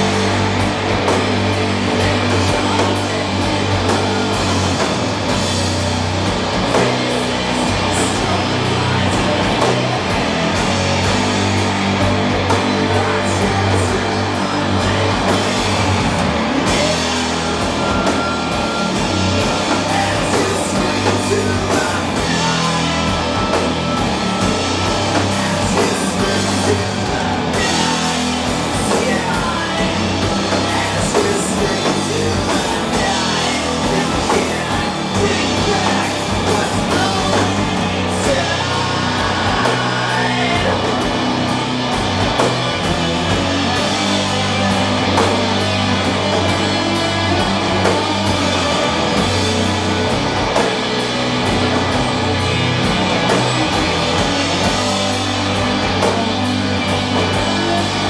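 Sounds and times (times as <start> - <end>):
distorted guitars and bass: 0.0 - 58.0
drums: 0.0 - 58.0
vocals: 0.0 - 58.0.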